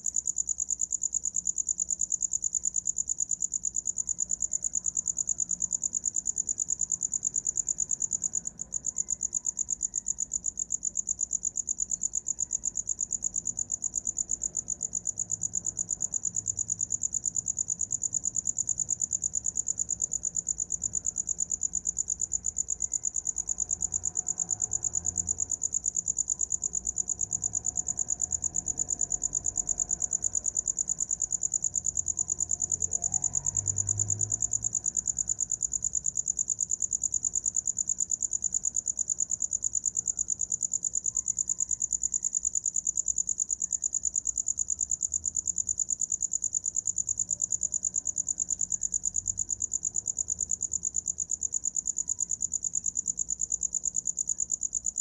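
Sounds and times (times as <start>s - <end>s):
cricket trilling: 0.0s - 55.0s.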